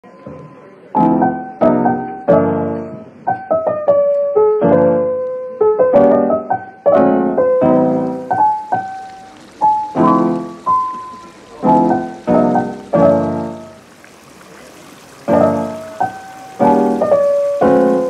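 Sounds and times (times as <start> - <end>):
piano music: 0.0 - 13.9, 14.5 - 18.0.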